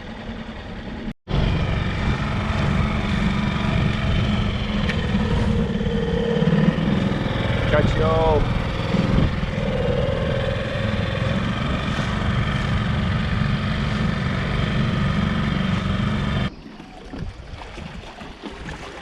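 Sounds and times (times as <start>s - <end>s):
outboard motor running: 0.0s - 19.0s
wind and water noise: 0.0s - 19.0s.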